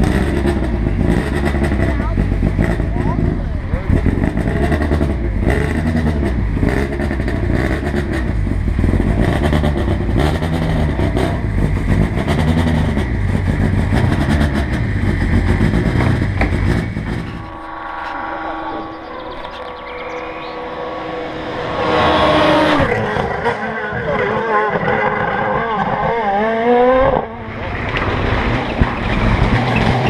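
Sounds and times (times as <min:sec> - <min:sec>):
distant car engine: 0:00.0 - 0:30.0
rally car engine revving: 0:00.0 - 0:30.0.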